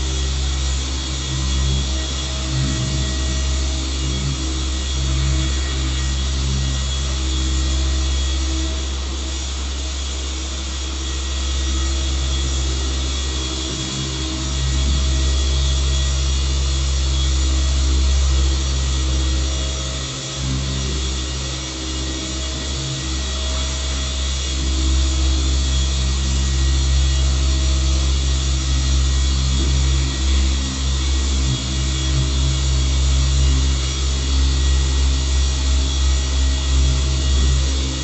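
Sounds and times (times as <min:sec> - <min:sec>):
electric car polisher running: 0:00.0 - 0:38.0.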